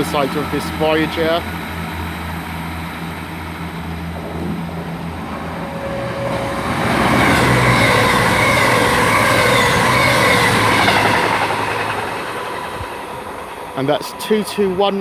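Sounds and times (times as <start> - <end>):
train passing: 0.0 - 15.0
train whining tones: 0.0 - 15.0.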